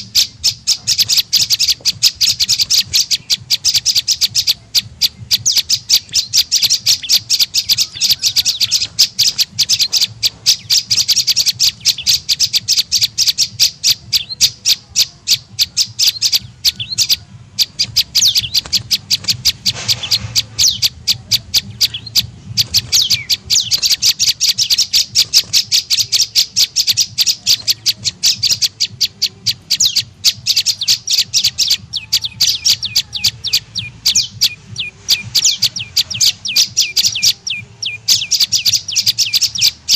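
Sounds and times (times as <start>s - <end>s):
bird lure call high chirps: 0.0s - 39.9s.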